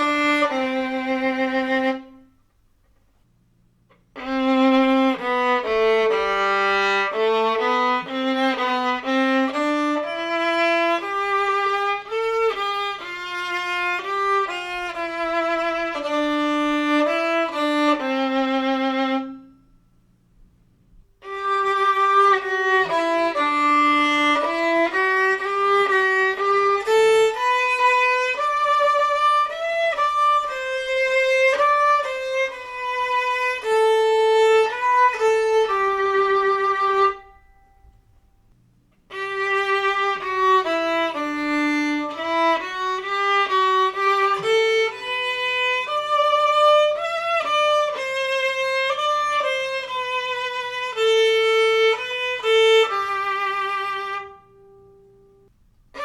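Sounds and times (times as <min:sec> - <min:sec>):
solo violin melody: 0:00.0 - 0:02.6, 0:03.9 - 0:20.0, 0:20.9 - 0:38.2, 0:38.9 - 0:56.0.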